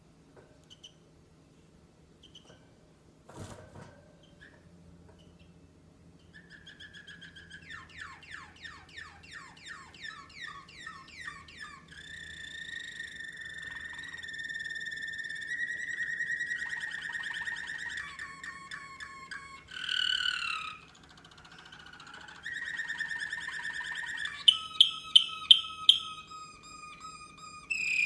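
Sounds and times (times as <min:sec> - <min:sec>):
canary singing trills: 0:04.2 - 0:28.0.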